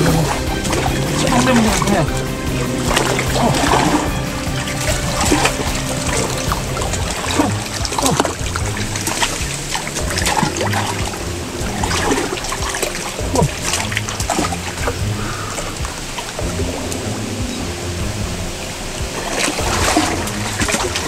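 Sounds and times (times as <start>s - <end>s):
background music: 0.0s - 21.0s
water splashing and sloshing: 0.0s - 21.0s.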